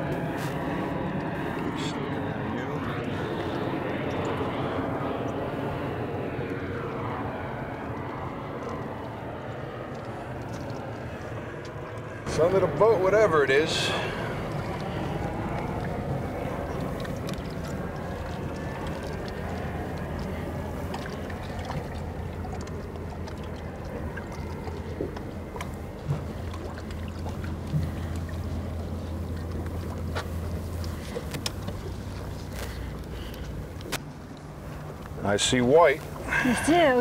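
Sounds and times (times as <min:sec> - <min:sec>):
outboard engine idling: 0:00.0 - 0:37.0.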